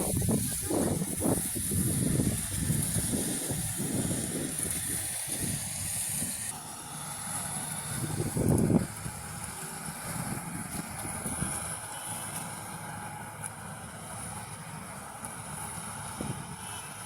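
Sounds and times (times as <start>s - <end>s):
combine harvester engine and threshing: 0.0s - 17.0s
constant high hiss: 0.0s - 17.0s.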